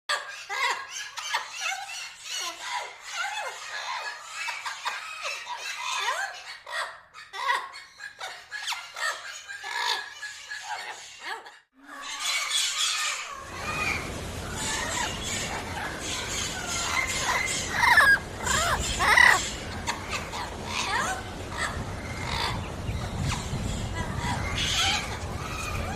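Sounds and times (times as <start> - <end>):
parrots squawking and chattering: 0.1 - 25.9.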